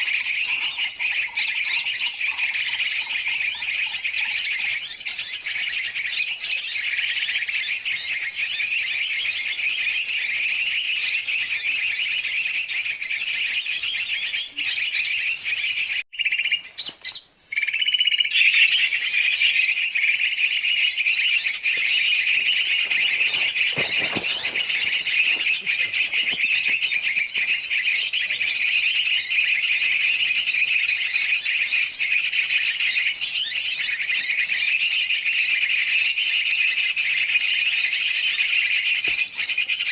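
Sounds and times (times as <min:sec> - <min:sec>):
chorus of many birds calling: 0:00.0 - 0:39.9.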